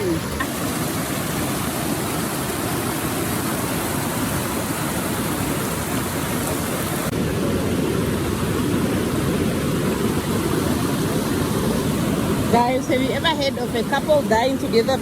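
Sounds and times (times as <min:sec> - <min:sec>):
water rushing over rapids: 0:00.0 - 0:15.0.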